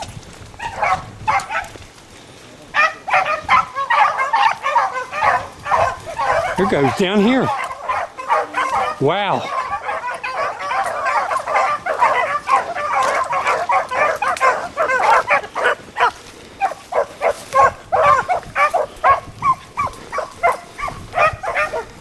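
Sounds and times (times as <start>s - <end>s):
pack of dogs baying: 0.0s - 2.0s, 2.6s - 22.0s.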